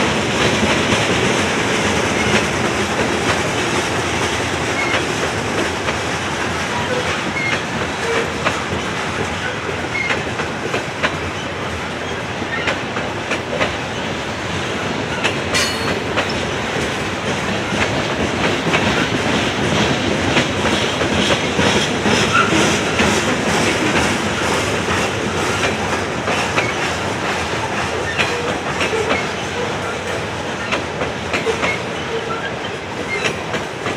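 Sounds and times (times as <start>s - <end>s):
train wheels clicking over rail joints: 0.0s - 33.9s.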